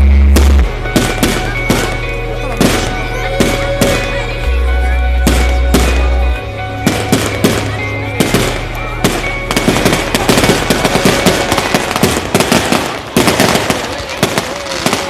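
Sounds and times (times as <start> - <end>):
firework bangs: 0.0 - 4.4, 5.2 - 15.0
firework crackling: 0.0 - 15.0
music with held notes: 0.0 - 15.0.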